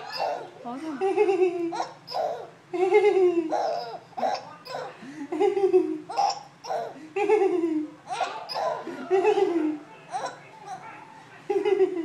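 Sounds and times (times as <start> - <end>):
baby laughing: 0.0 - 12.0.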